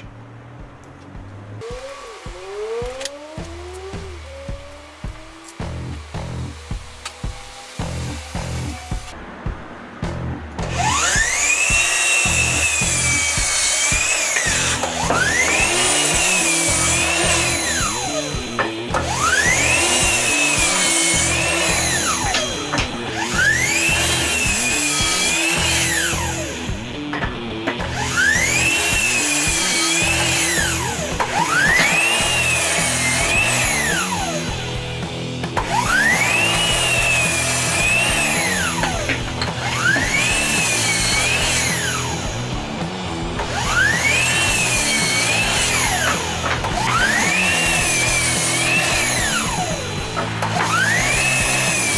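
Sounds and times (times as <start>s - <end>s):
miter saw whining and cutting wood: 0.0s - 9.3s, 10.1s - 51.9s
background music with steady beat: 0.0s - 51.9s.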